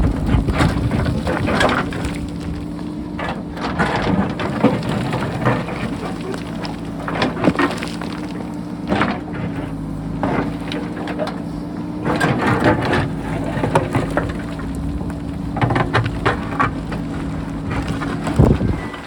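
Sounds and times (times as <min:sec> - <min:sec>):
diesel engine running: 0:00.0 - 0:19.0
rock cracking and clattering: 0:00.0 - 0:19.0.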